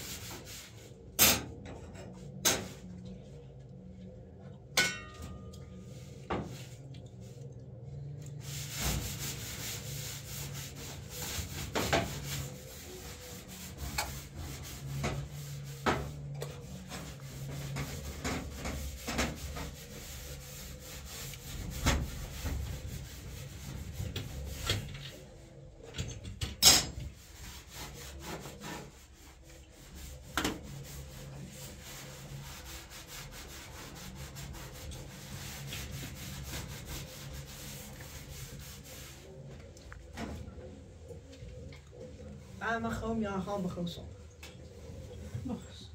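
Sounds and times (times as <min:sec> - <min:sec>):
cloth scrubbing stovetop: 0:00.0 - 0:01.3, 0:04.3 - 0:45.9.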